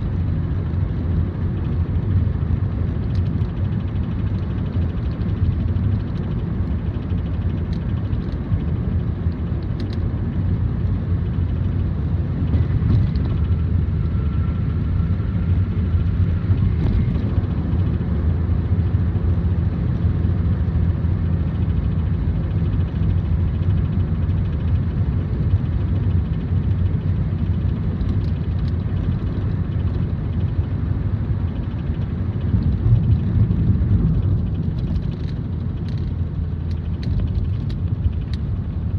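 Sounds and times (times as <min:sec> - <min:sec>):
car low droning hum: 0:00.0 - 0:38.9.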